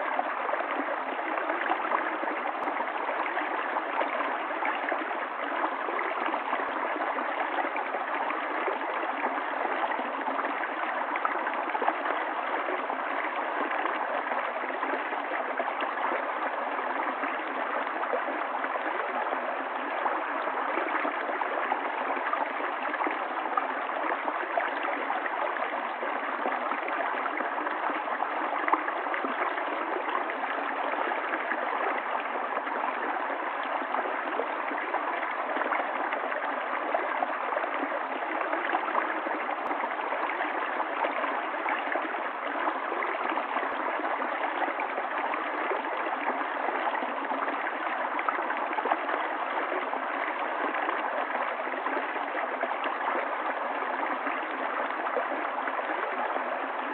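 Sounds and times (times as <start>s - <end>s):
stream water running: 0.0s - 56.9s.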